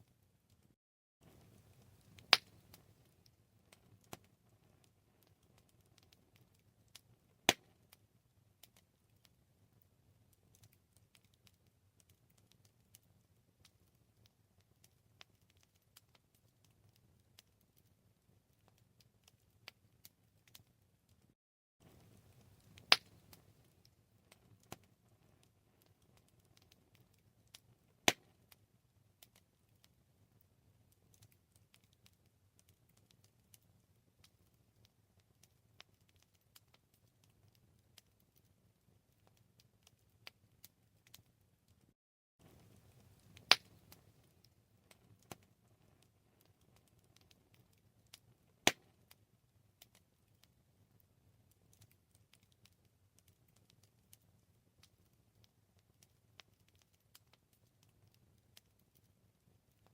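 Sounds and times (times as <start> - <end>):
campfire wood crackling: 0.1 - 59.9.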